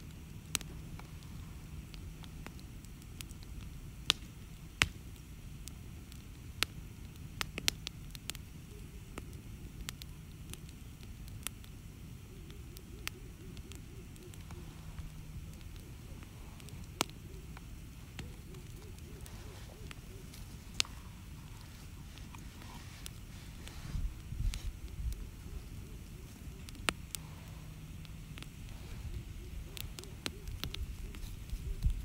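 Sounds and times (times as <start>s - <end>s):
flames burning: 0.0s - 32.0s
logs crackling and popping: 0.0s - 32.0s.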